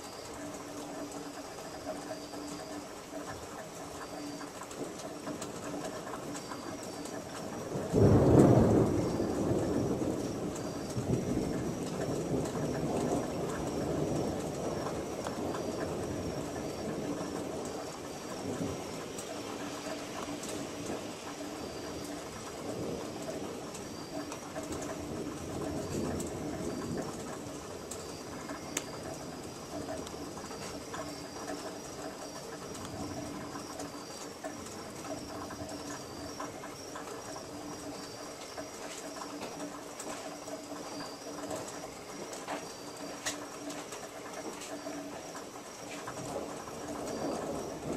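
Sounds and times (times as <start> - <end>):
faint clicks and drips: 0.0 - 47.9.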